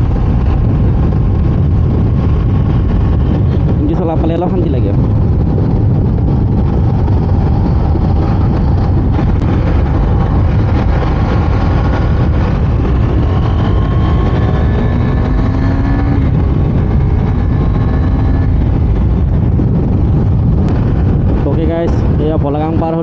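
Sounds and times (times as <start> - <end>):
motorcycle engine accelerating: 0.0 - 22.3
wind rushing on microphone: 0.0 - 23.0.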